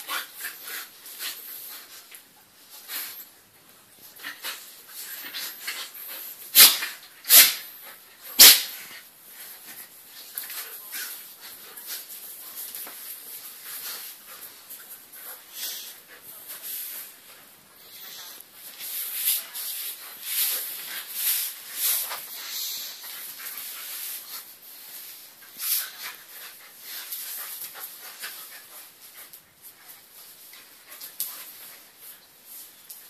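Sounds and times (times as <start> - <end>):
dogs play-wrestling sounds: 0.0 - 33.0.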